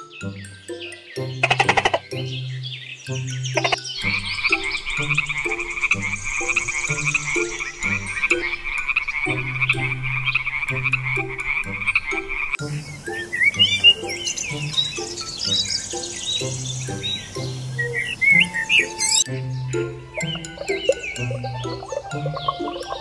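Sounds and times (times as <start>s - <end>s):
tree frogs croaking trill: 0.0s - 23.0s.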